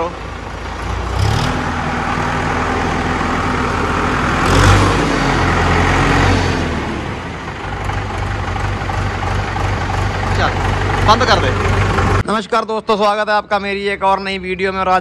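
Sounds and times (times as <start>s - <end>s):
tractor diesel engine revving: 0.0s - 12.3s.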